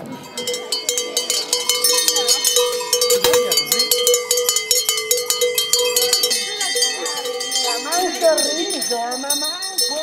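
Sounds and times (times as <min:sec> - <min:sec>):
cowbells ringing rapidly: 0:00.0 - 0:10.0
voices: 0:00.0 - 0:10.0.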